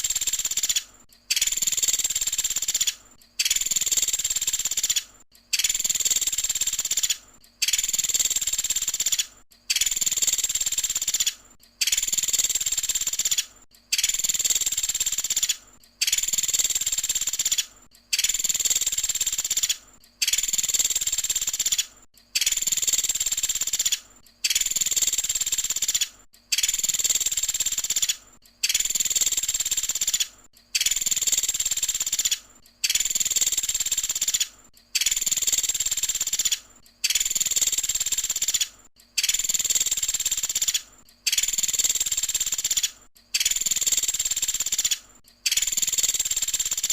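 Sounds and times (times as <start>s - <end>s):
woodpecker calls: 0.0s - 46.9s.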